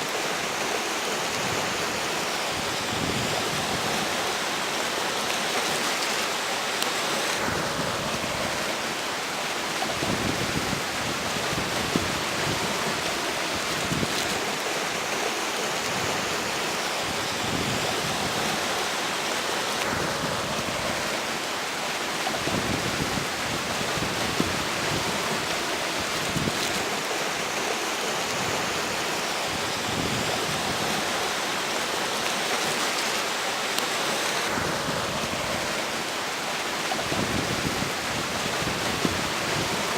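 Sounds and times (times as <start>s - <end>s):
river water rushing over rocks: 0.0s - 39.9s
wind rumbling on microphone: 1.2s - 4.7s, 7.3s - 15.2s, 15.8s - 32.9s, 34.3s - 39.9s.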